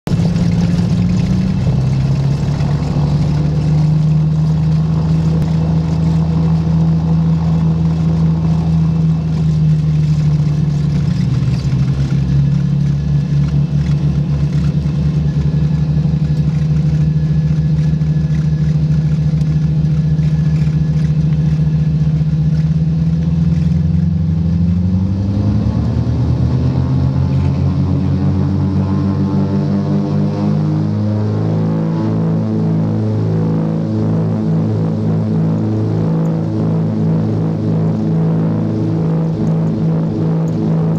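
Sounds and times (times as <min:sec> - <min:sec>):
twin piston aircraft engines droning: 0:00.1 - 0:40.9.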